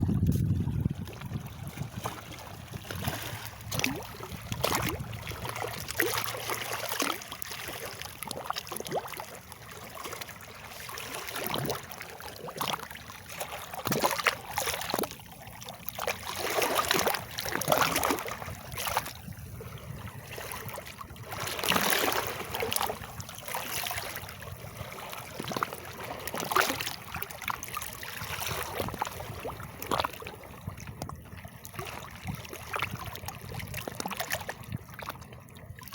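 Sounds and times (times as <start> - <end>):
water splashing and trickling: 0.0 - 35.9.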